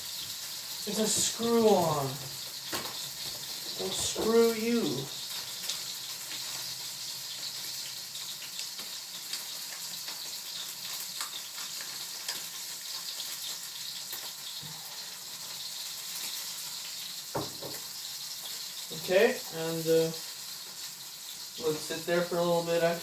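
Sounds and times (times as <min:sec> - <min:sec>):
steak sizzling in a frying pan: 0:00.0 - 0:23.0.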